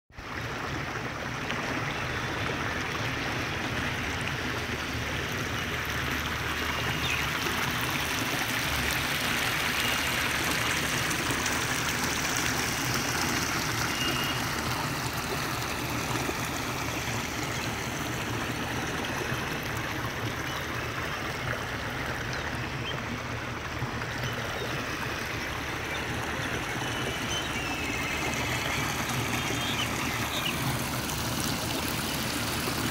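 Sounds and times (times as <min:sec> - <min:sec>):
stream water flowing: 0:00.1 - 0:32.9.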